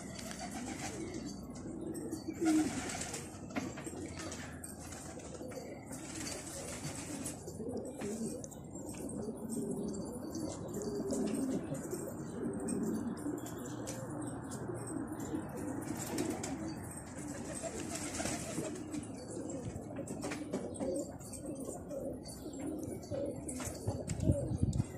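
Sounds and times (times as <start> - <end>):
pigeons cooing: 0.0 - 24.9.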